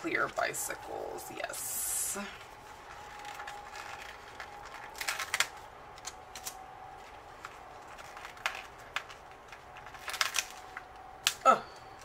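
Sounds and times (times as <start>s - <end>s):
faint steady hum: 0.0s - 12.0s
paper stickers peeling: 2.2s - 12.0s.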